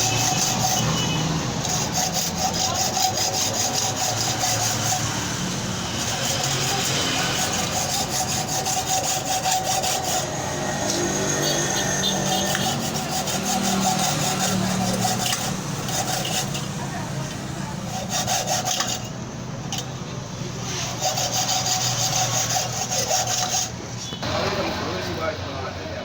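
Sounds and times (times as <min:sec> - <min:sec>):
hand tool rasping on metal: 0:00.0 - 0:20.0, 0:20.6 - 0:24.2.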